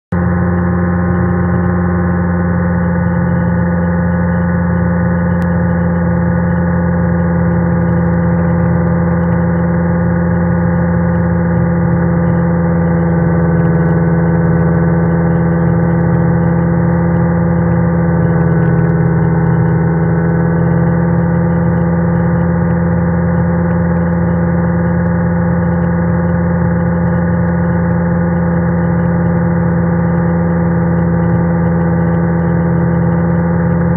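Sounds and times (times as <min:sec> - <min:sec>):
light aircraft engine droning: 0:00.1 - 0:33.9.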